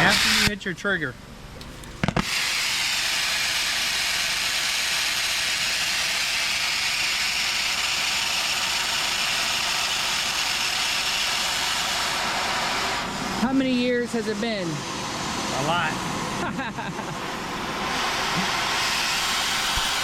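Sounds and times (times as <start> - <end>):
torch flame hissing: 0.0 - 0.6, 1.5 - 20.0.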